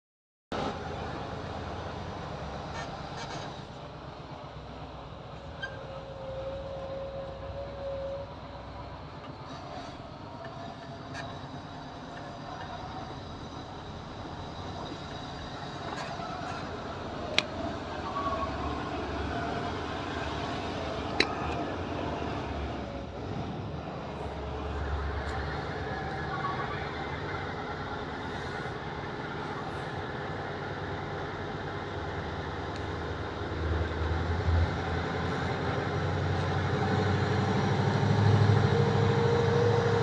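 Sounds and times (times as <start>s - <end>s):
diesel truck engine rumbling: 0.6s - 40.0s.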